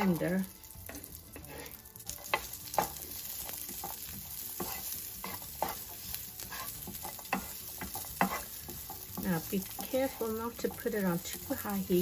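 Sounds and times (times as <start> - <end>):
meat sizzling in a skillet: 0.0 - 12.0
wooden spoon scraping a pan: 0.2 - 12.0.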